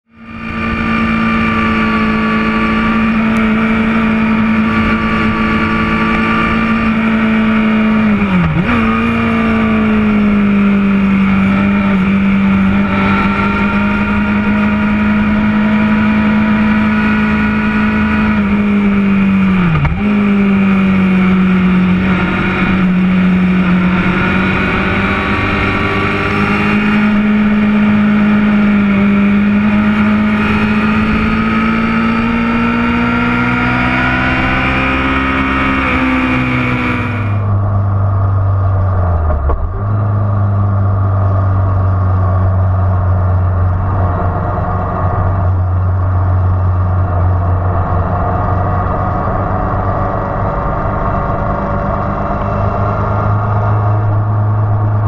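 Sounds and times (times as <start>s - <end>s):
motorcycle engine at high revs: 0.1s - 55.0s.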